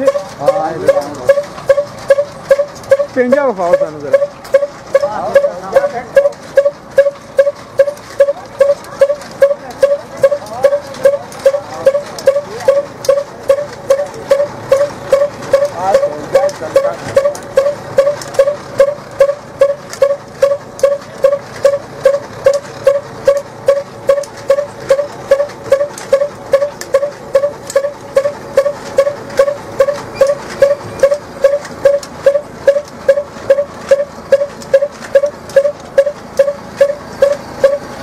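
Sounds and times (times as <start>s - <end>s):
chaff cutter running: 0.0s - 38.0s.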